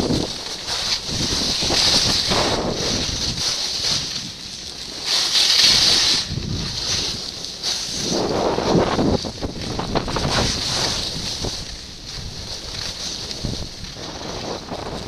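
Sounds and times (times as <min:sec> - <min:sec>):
skis scraping snow: 0:00.0 - 0:15.0
wind rushing over microphone: 0:00.0 - 0:15.0.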